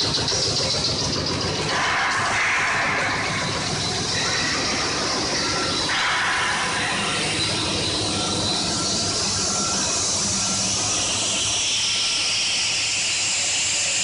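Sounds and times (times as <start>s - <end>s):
extrusion machine running: 0.0s - 14.0s.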